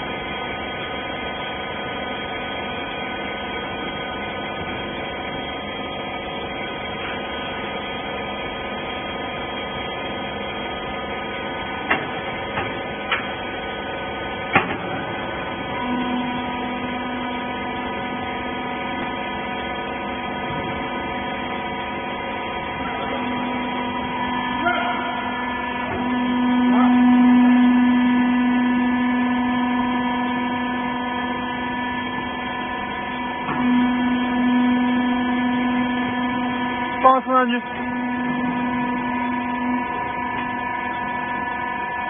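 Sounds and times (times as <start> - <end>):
hydraulic pump motor humming: 0.0 - 42.0.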